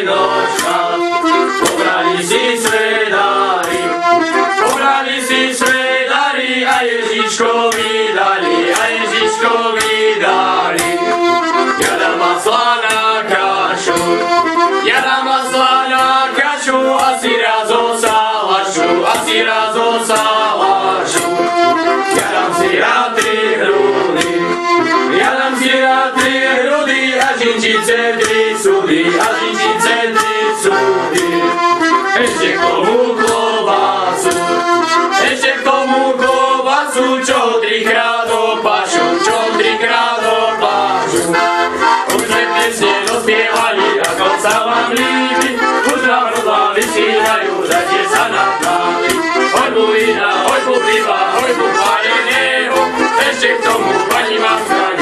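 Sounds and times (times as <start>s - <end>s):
accordion playing folk tune: 0.0s - 55.0s
steady clicking beat: 0.0s - 55.0s.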